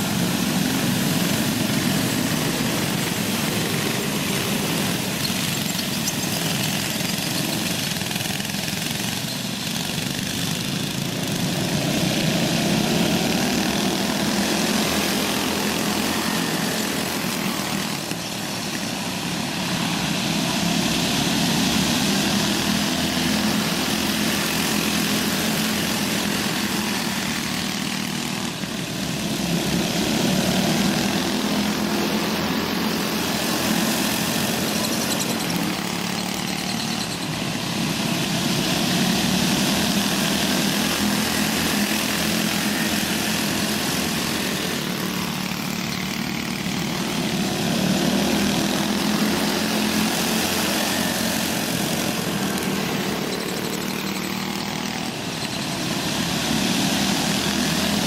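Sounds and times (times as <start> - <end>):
go-kart engines racing: 0.0 - 58.0.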